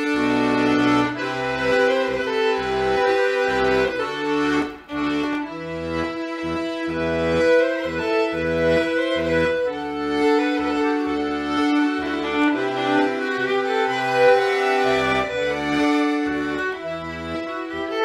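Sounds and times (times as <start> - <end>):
fiddle melody: 0.0 - 18.0.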